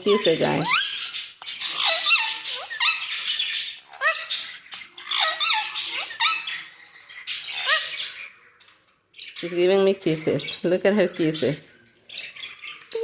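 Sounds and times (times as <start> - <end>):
parakeet squawking: 0.0 - 13.0.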